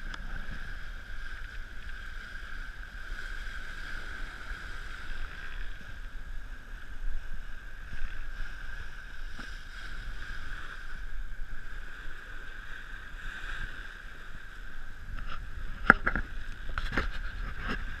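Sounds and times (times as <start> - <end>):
wind and sea rushing: 0.0 - 18.0
wind on microphone: 0.0 - 18.0.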